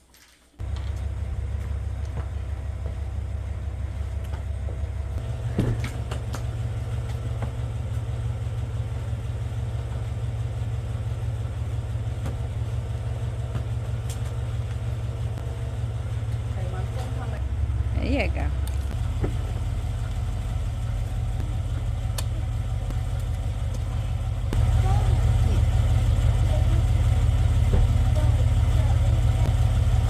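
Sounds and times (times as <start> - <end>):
car rumble inside cabin: 0.6 - 30.0.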